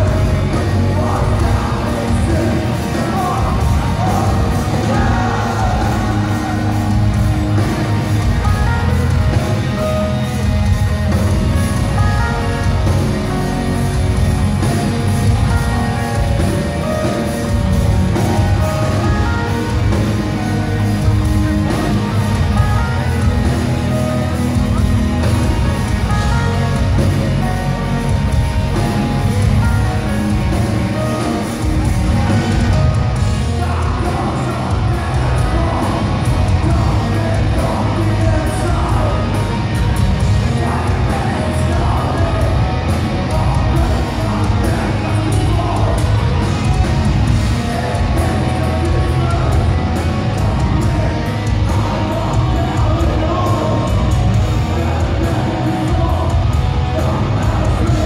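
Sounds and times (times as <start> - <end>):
metal band playing: 0.0 - 58.0.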